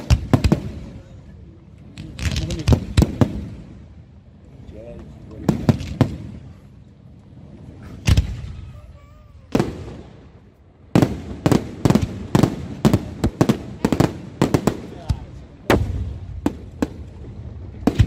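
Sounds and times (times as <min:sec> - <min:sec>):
fireworks bursting with bangs: 0:00.0 - 0:04.0, 0:05.4 - 0:18.0.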